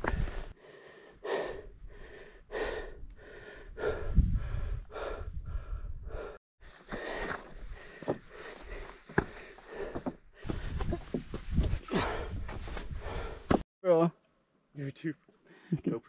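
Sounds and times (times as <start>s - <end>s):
person breathing hard: 0.0s - 13.6s.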